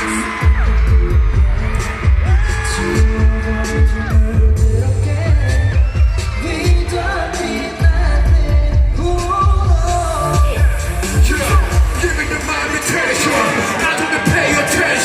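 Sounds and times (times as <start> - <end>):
person singing: 0.0 - 15.0
pounding bass beat: 0.0 - 15.0.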